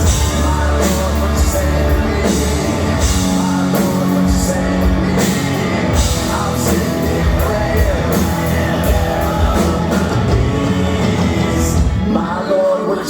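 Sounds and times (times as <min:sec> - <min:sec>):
drums with crashing cymbals: 0:00.0 - 0:12.3
electric guitar lead: 0:00.0 - 0:12.5
bass: 0:00.0 - 0:13.0.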